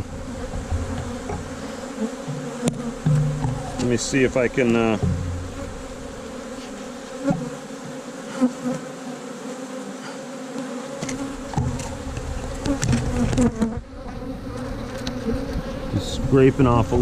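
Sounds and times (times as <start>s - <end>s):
hive tool scraping frame: 0.0s - 16.4s
bees buzzing: 0.0s - 17.0s.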